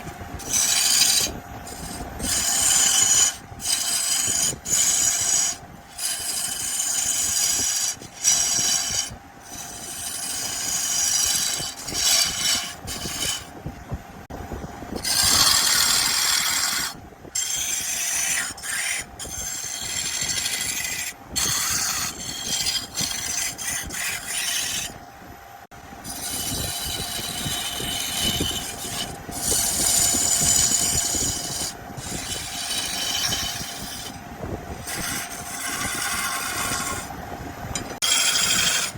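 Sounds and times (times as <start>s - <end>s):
lathe motor hum: 0.0s - 13.5s, 15.0s - 25.1s, 26.0s - 38.9s
tool scraping spinning wood: 0.0s - 13.8s, 14.9s - 25.1s, 26.0s - 38.9s.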